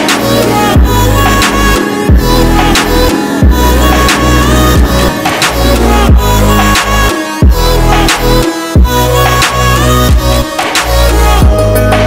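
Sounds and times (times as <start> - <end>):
music with deep bass and beat: 0.0 - 12.0.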